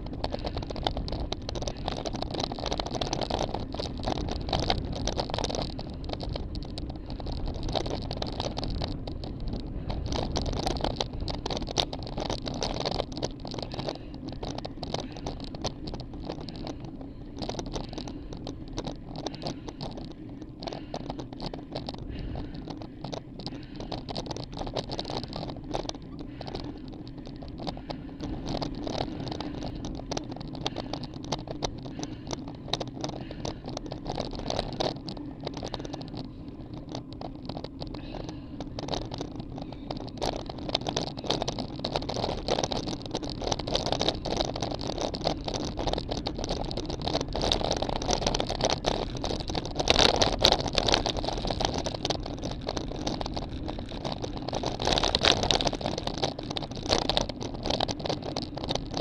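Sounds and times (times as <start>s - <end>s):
bicycle rattling: 0.0s - 59.0s
tyre road noise: 0.0s - 59.0s
wind rushing over microphone: 0.0s - 59.0s.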